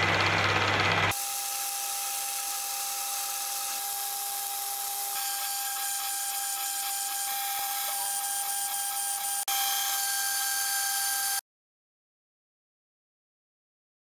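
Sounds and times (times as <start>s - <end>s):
mill-drill motor whine: 0.0s - 11.4s.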